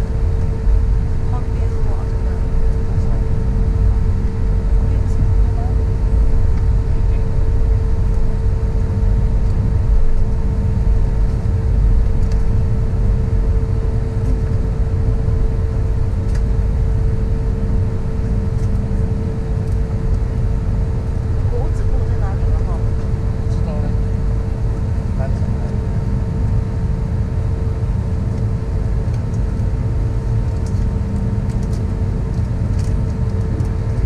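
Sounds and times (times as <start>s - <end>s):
constant mid-pitched hum: 0.0s - 34.0s
low engine rumble in cabin: 0.0s - 34.0s.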